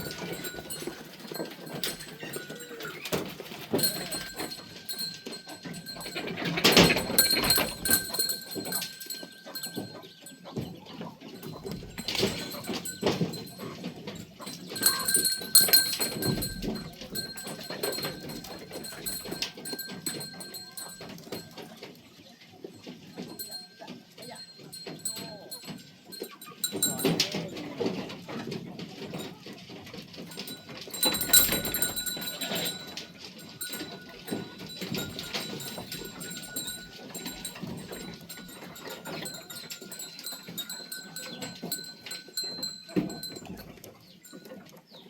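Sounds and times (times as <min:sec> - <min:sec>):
rustling: 0:00.0 - 0:22.0, 0:22.7 - 0:44.8.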